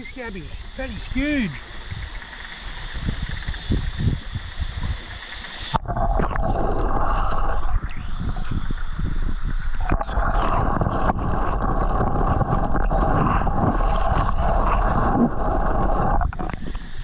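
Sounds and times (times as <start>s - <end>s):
underwater gurgling water: 0.0s - 17.0s.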